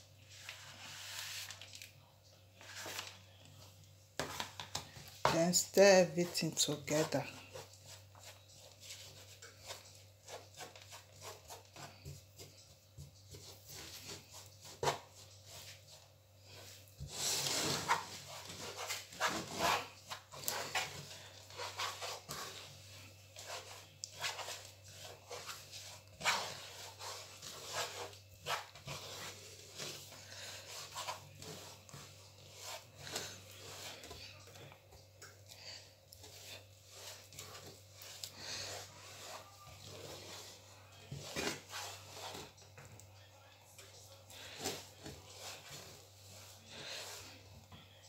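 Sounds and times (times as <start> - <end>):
wooden spatula scraping a pan: 4.2 - 34.7, 35.6 - 42.8, 44.4 - 47.5.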